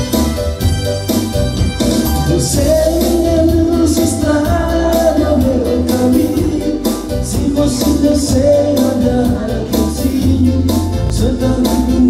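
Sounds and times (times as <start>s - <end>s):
dance music with singing: 0.0s - 12.0s.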